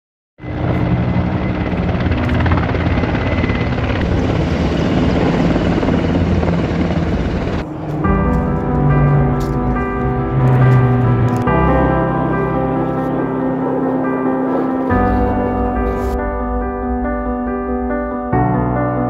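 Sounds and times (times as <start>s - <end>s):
helicopter rotor and engine: 0.4s - 18.0s
music: 0.4s - 19.0s.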